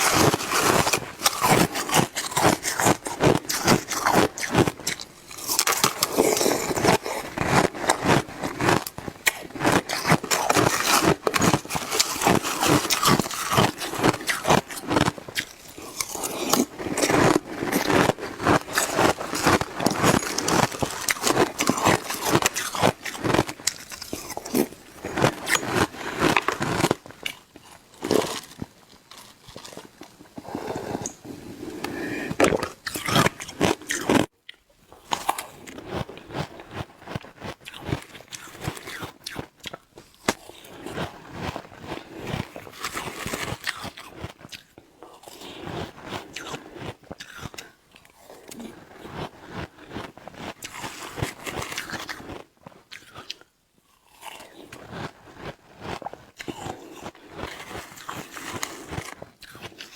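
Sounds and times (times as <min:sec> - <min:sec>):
biting and crunching shaved ice: 0:00.0 - 0:30.3, 0:31.8 - 0:34.3, 0:35.0 - 0:59.9.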